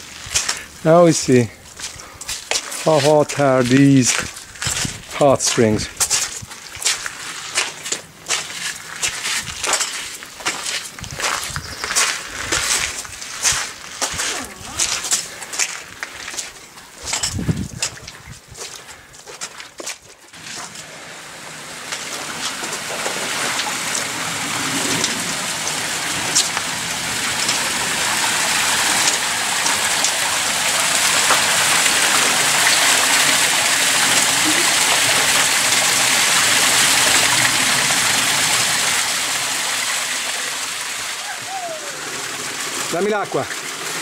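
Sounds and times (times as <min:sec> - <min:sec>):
stream water rushing and splashing: 0:00.0 - 0:16.5, 0:20.3 - 0:44.0.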